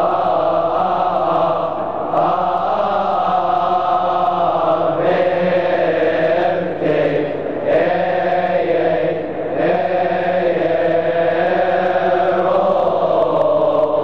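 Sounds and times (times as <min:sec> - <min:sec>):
men's choir chanting a hymn: 0:00.0 - 0:14.0.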